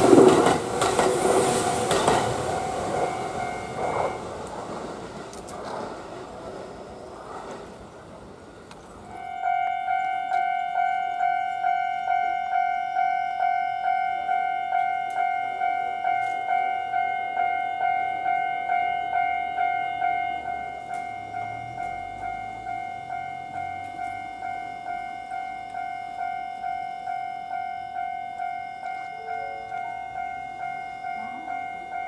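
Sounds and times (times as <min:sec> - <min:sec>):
level crossing warning bell: 0:00.0 - 0:04.7, 0:09.0 - 0:32.0.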